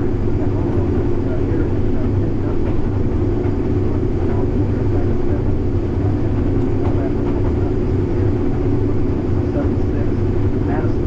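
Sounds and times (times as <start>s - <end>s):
harvest machinery engine drone: 0.0s - 11.0s.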